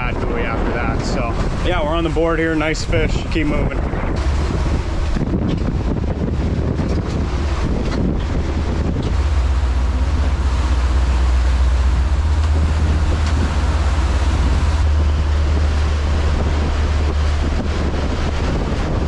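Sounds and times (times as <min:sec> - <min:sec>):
boat low rumble: 0:00.0 - 0:19.0
rush of the sea: 0:00.0 - 0:19.0
wind buffeting microphone: 0:00.0 - 0:19.0.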